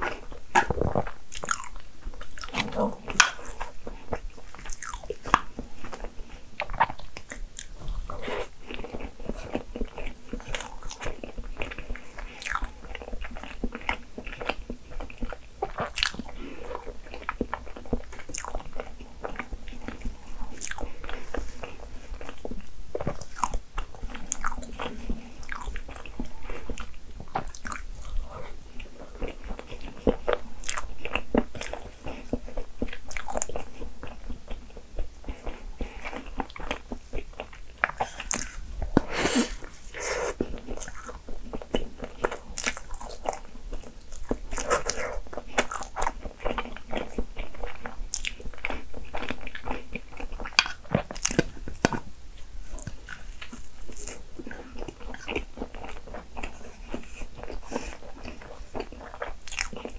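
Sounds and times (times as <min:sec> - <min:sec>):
close chewing and eating: 0:00.0 - 0:59.9.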